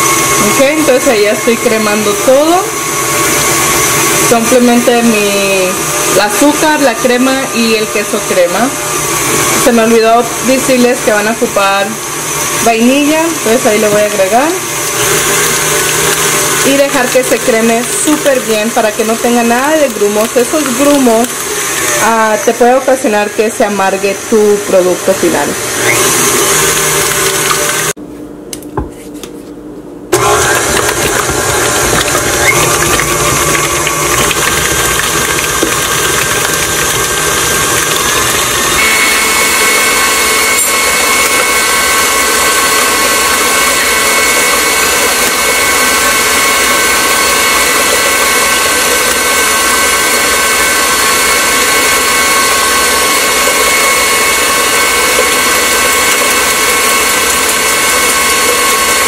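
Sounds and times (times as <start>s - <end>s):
stand mixer motor whining: 0.0s - 28.0s, 30.1s - 59.0s.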